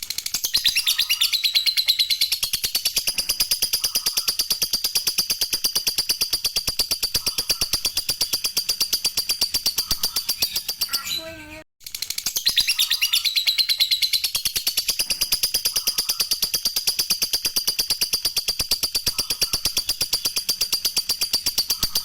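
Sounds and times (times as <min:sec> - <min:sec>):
bird chattering trill: 0:00.3 - 0:11.6, 0:12.2 - 0:22.0.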